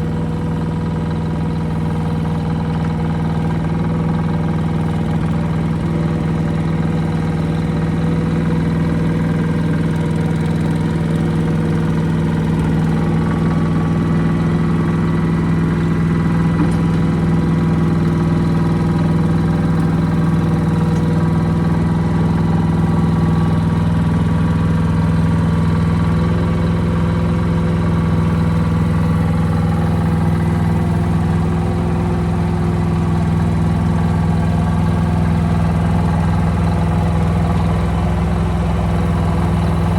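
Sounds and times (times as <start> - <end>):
small diesel engine running: 0.0 - 39.9.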